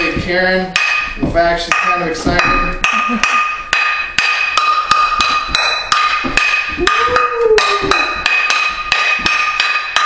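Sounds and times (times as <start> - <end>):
metal pots and pans clanging: 0.8 - 10.0.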